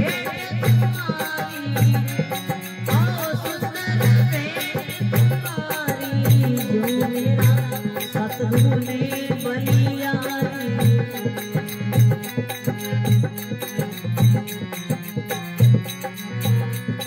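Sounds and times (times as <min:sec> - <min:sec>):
harmonium melody: 0:00.0 - 0:17.0.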